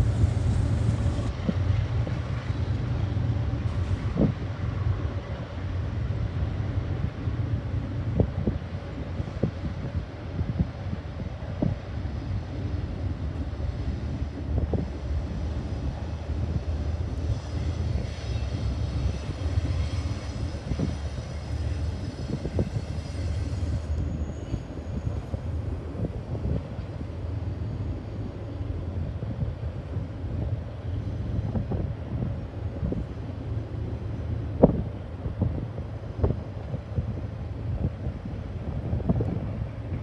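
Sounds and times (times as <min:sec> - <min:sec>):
freight train rumbling: 0:00.0 - 0:40.0.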